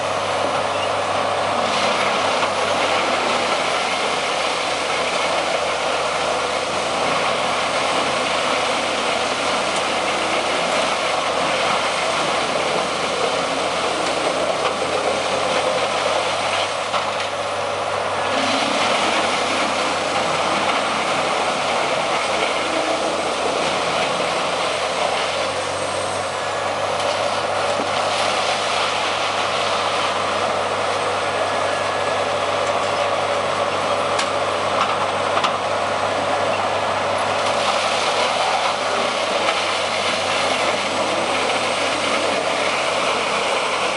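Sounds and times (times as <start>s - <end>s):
wood chipper running: 0.0s - 43.9s.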